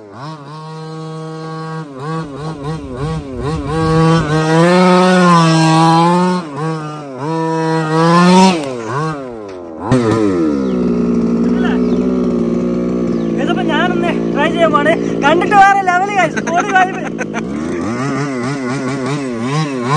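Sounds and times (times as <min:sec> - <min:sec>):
small two-stroke engine revving: 0:00.0 - 0:19.9.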